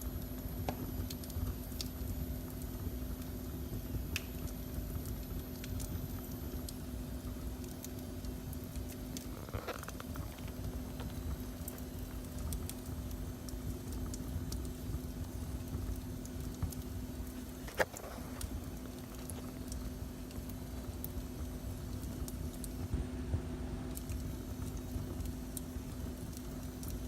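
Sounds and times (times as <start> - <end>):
faint hum: 0.0 - 27.0
wood fire crackling: 0.0 - 27.0.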